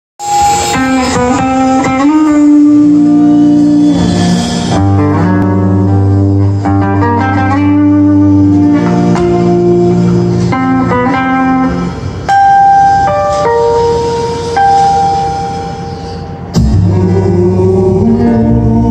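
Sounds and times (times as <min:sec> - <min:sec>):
electric guitars melody: 0:00.2 - 0:18.9
low bass line: 0:00.3 - 0:18.9.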